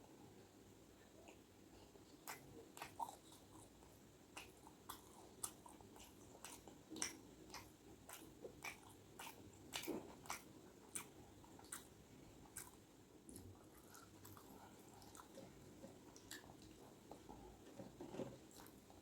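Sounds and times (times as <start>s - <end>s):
person chewing: 1.2s - 17.4s.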